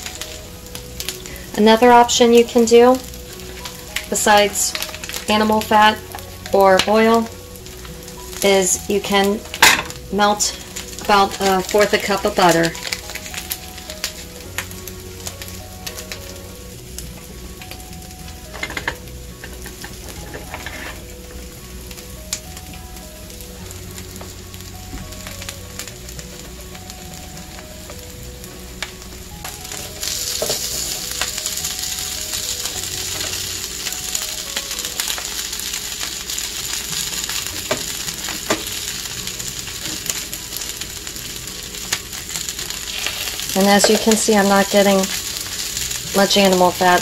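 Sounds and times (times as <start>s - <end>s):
slices sizzling in a pan: 0.0s - 47.0s.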